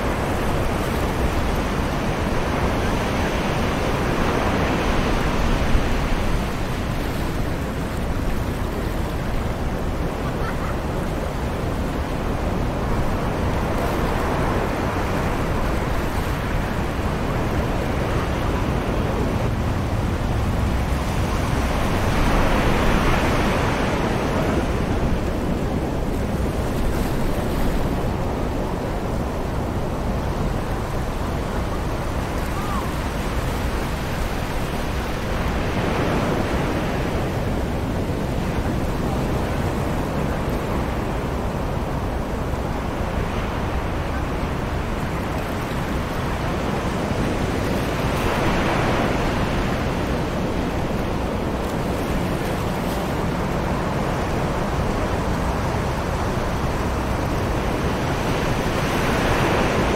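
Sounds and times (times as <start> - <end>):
distant ocean waves on beach: 0.0 - 59.9.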